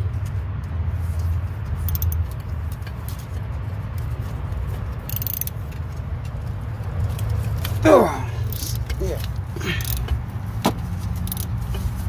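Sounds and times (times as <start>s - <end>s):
ratchet clicking: 0.2s - 7.8s, 8.4s - 10.3s, 10.9s - 12.0s.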